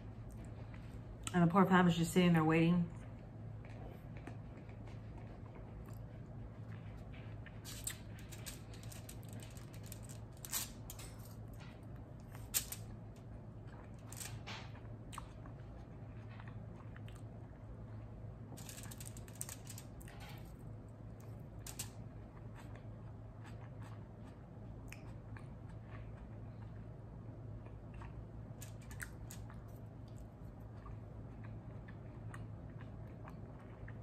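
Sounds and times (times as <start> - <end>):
steady low hum: 0.0 - 34.0
crunchy chewing: 2.9 - 34.0.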